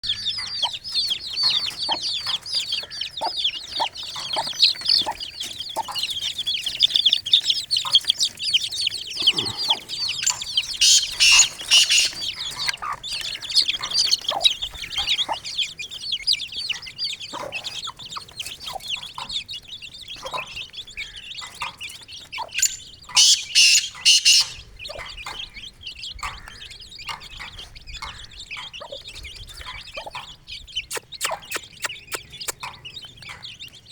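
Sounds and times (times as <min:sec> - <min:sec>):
hen clucking: 0:00.0 - 0:33.8
chicks peeping: 0:00.0 - 0:33.9.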